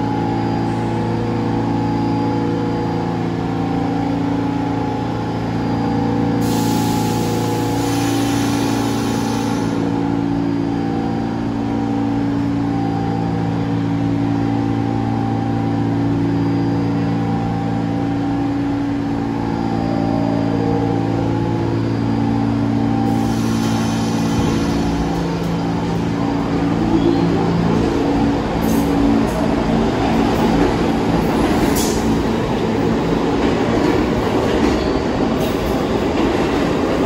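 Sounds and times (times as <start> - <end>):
subway train humming: 0.0 - 37.0.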